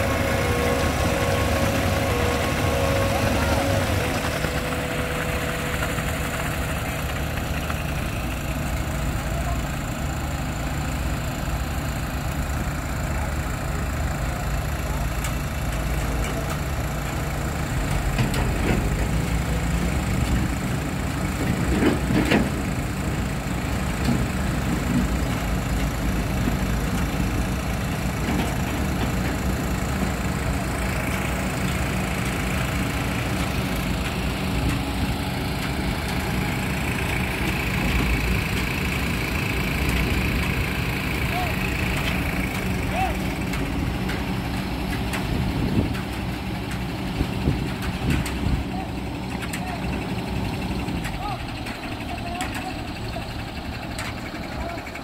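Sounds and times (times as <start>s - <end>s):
diesel engine high idle: 0.0s - 55.0s.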